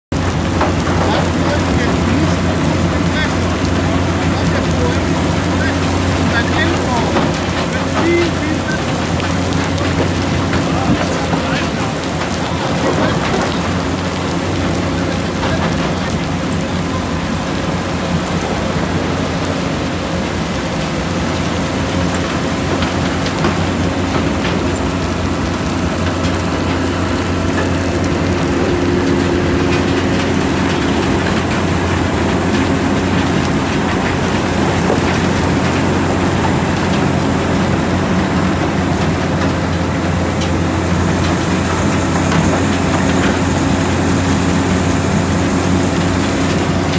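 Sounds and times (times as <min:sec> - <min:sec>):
diesel engine and crusher drone: 0:00.1 - 0:46.9.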